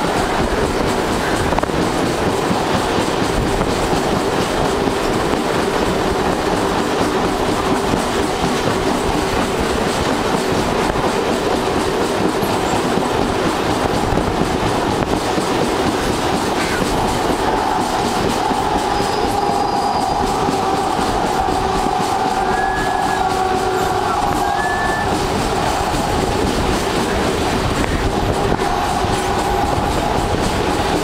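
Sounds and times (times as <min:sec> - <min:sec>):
clickety-clack over rail joints: 0:00.0 - 0:31.0
passing train coaches: 0:00.0 - 0:31.0
train wheels rumbling on rail: 0:00.0 - 0:31.0.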